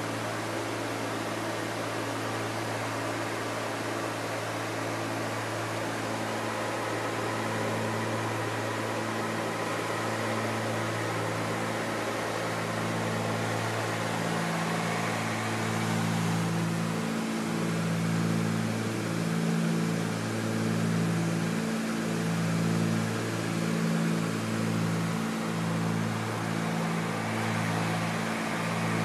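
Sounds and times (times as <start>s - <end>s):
light aircraft cabin drone: 0.0s - 29.0s.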